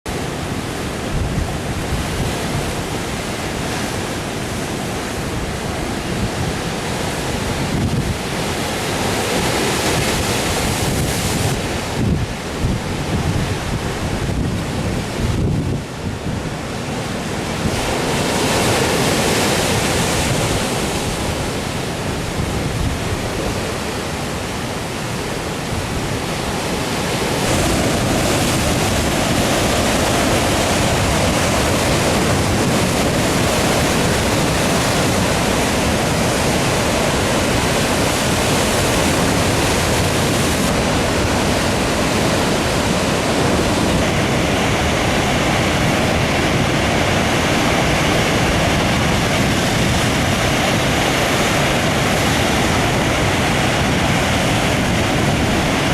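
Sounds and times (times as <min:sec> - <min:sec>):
heavy surf breaking: 0:00.1 - 0:55.9.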